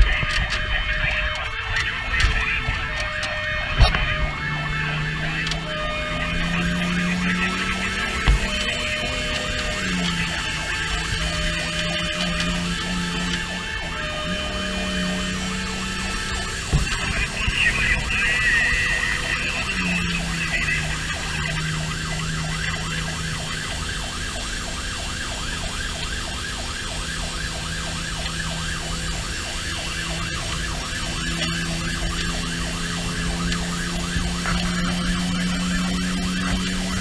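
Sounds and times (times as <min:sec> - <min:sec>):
fire engine siren wailing: 0:00.0 - 0:37.0
truck engine and road noise: 0:00.0 - 0:37.0.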